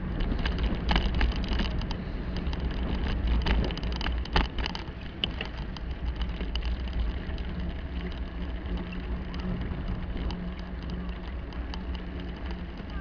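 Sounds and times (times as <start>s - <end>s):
bicycle clicks and rattles: 0.0s - 13.0s
bicycle tyre rumble on paving: 0.0s - 13.0s.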